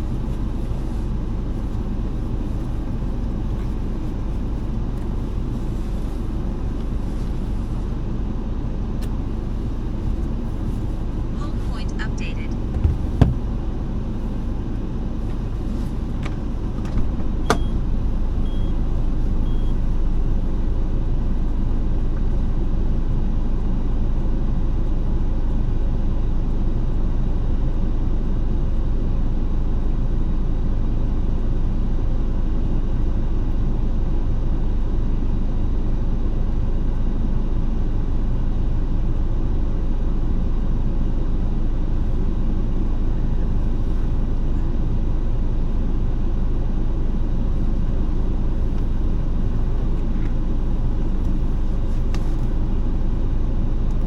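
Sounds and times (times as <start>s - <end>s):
road vehicle rumble: 0.0s - 34.1s, 34.8s - 54.0s.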